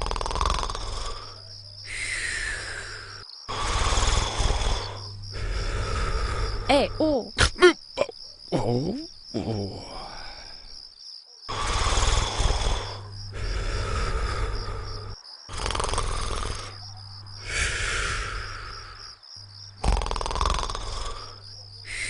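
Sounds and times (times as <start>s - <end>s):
cartoon snoring: 0.0s - 10.6s, 11.5s - 19.2s, 19.8s - 22.0s
crickets chirping: 0.0s - 22.0s.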